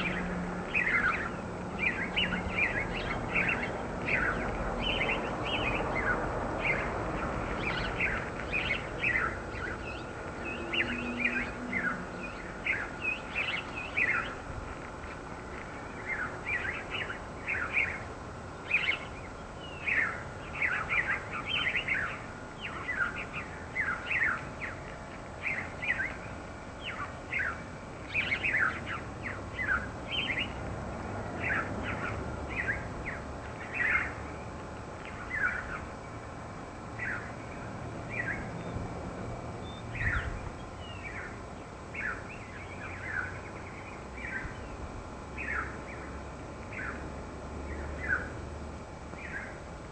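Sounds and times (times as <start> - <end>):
birds chirping: 0.0 - 38.9, 39.5 - 49.9
low rumble of breeze: 0.0 - 49.9.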